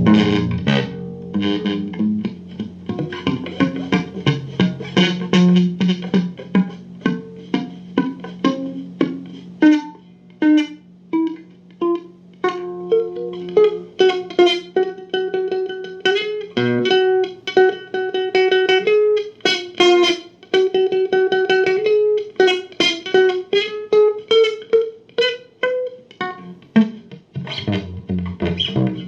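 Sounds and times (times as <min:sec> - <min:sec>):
plucked guitar notes: 0:00.0 - 0:29.0.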